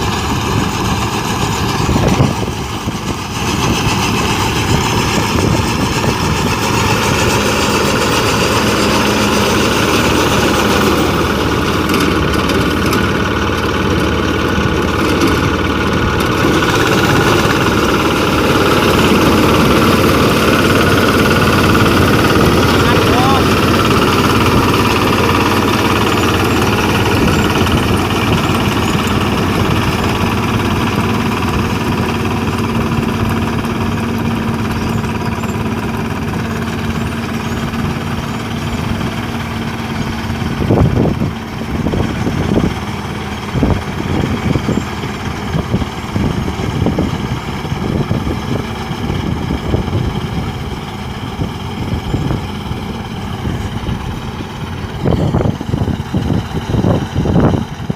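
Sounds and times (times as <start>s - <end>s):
harvesting machine engine running: 0.0s - 57.9s
machine knocking and rattling: 0.0s - 57.9s.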